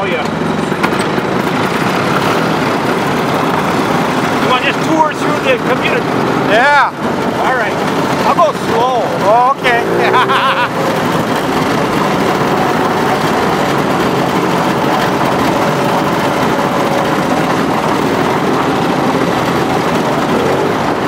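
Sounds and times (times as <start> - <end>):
snowmobile engine running: 0.0 - 21.0.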